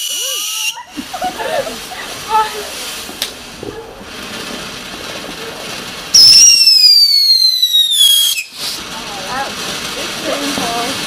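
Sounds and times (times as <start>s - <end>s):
whistling firework: 0.0s - 8.9s.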